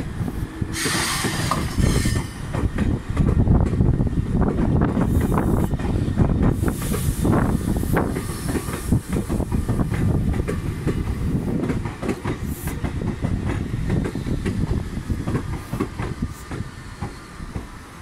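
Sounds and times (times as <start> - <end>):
electric train rumbling past: 0.0 - 18.0
wheels clicking over rail joints: 0.7 - 17.8.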